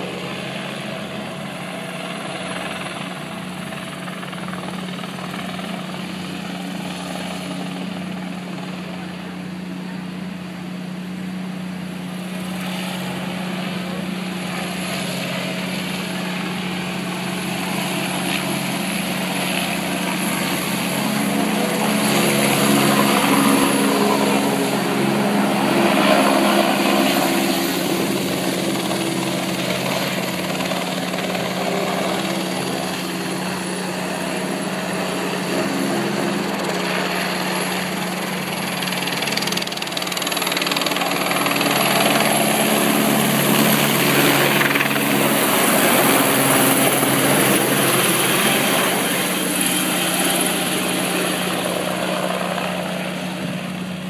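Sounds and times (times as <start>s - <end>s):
helicopter flying overhead: 0.0s - 54.0s.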